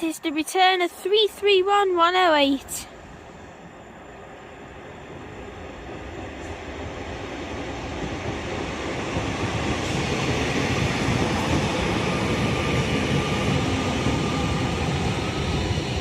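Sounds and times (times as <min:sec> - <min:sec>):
electric train slowing to a stop: 0:02.5 - 0:16.0.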